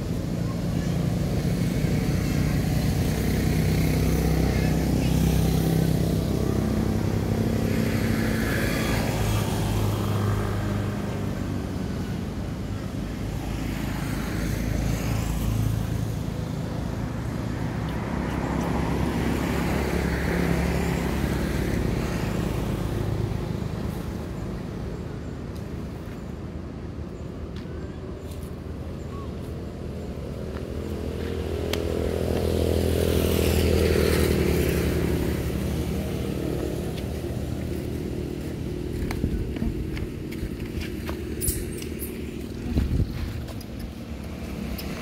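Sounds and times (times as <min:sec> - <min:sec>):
vehicle engines passing by: 0:00.0 - 0:45.0.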